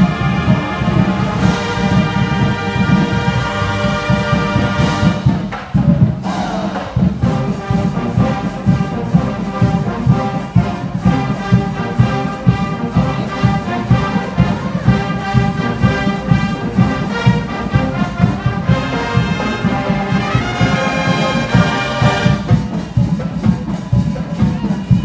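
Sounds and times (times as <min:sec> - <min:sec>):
marching band playing: 0:00.0 - 0:25.0
steady drum beat: 0:00.0 - 0:25.0.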